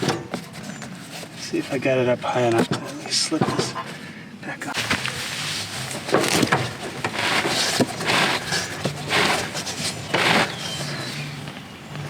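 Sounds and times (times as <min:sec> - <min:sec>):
wheel scraping against axle: 0:00.0 - 0:12.0.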